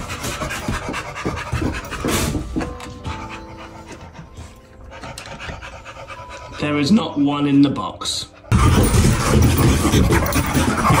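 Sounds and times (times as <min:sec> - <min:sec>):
dog panting: 0:00.0 - 0:07.2, 0:08.0 - 0:11.0.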